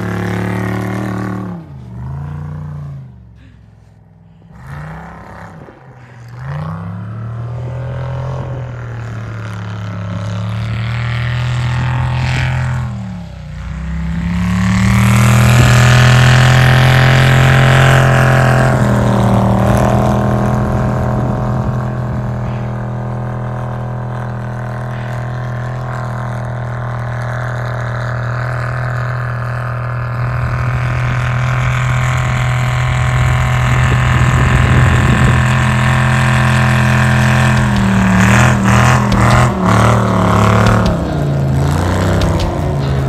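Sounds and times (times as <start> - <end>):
race buggy engine revving high: 0.0 - 43.0.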